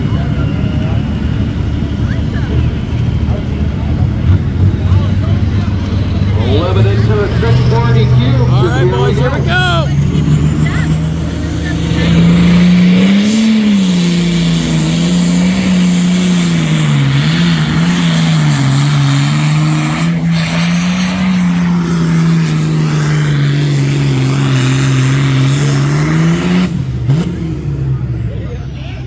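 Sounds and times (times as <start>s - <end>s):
pulling tractor engine at full throttle: 0.0s - 29.0s.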